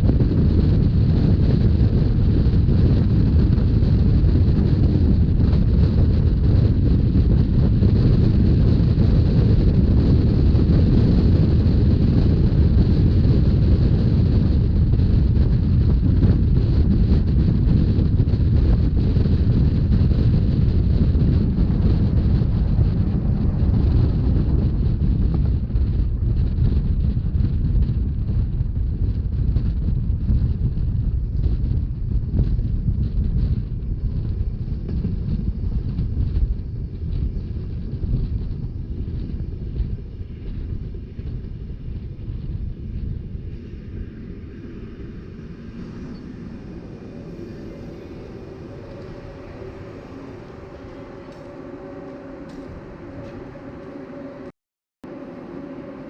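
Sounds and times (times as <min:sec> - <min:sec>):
train running noise: 0:00.0 - 0:56.0
wind rushing over microphone: 0:00.0 - 0:56.0.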